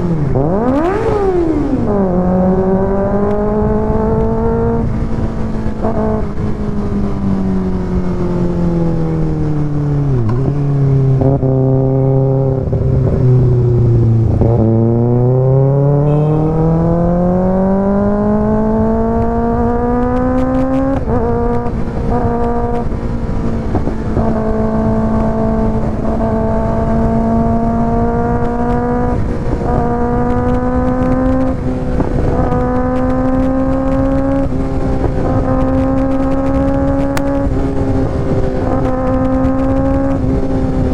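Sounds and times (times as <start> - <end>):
sport bike engine: 0.0 - 40.9.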